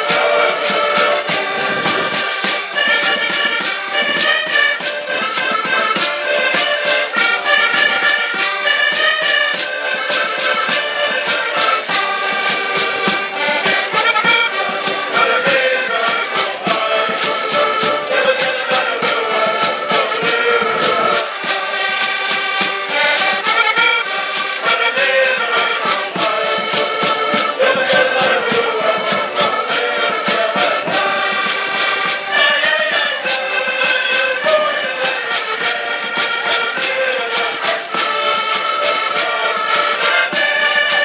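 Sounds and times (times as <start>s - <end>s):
button accordions playing: 0.0s - 41.0s
hand percussion: 0.0s - 41.0s
small drum beat: 0.0s - 41.0s.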